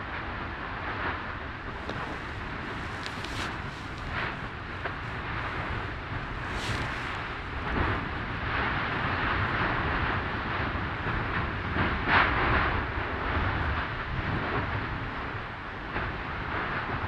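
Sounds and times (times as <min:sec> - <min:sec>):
lava fountain rumbling and spattering: 0:00.0 - 0:17.0.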